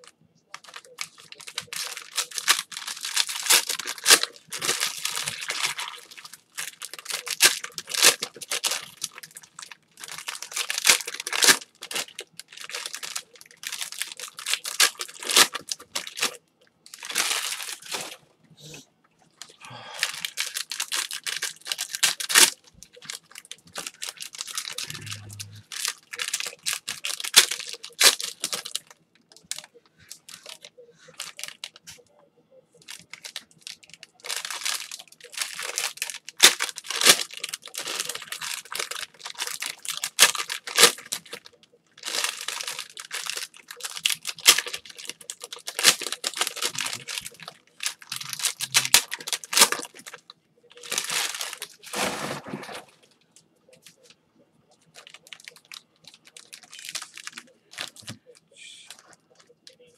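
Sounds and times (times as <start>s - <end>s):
foil wrappers crinkling: 0.0s - 18.2s, 19.4s - 32.0s, 32.8s - 53.1s, 54.7s - 59.9s.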